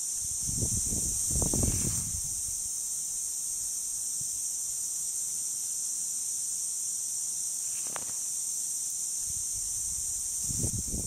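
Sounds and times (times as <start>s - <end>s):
lawn sprinkler hissing: 0.0s - 11.0s.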